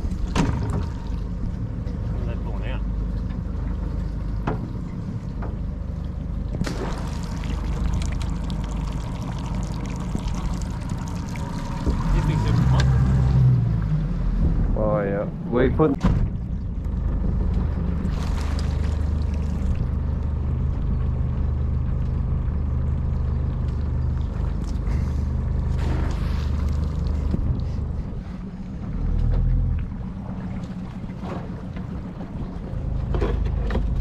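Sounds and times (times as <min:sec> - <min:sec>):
outboard motor droning: 0:00.0 - 0:34.0.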